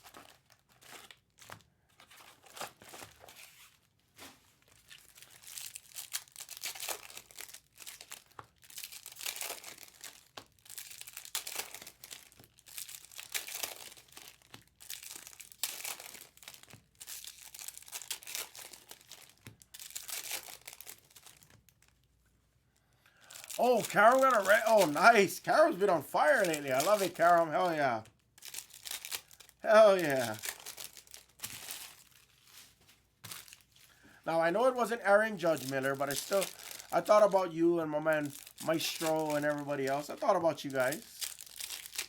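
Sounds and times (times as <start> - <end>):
foil wrappers crinkling and tearing: 0.0 - 22.2, 23.1 - 42.0.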